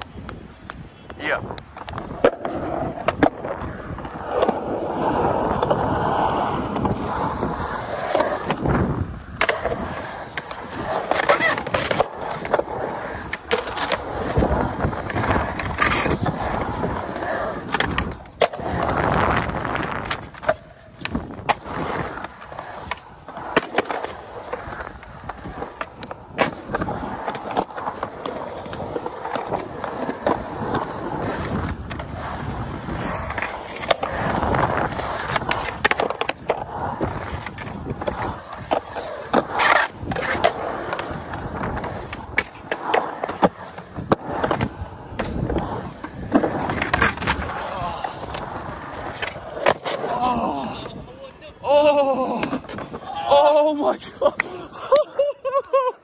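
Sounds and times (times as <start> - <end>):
skateboard clacking on concrete: 0.0 - 51.5
skateboard wheels rolling on concrete: 0.0 - 56.0.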